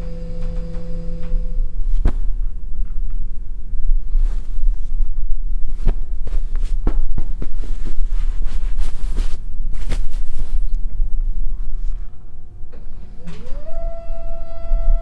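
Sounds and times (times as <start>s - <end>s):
furniture mechanism humming: 0.0s - 15.0s.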